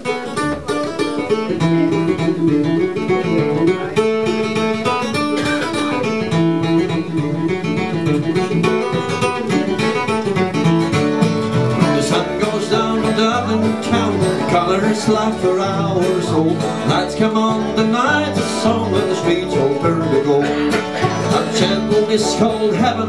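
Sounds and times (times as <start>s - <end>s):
acoustic guitar plucked melody: 0.0s - 23.0s
bluegrass string band playing: 0.0s - 23.0s.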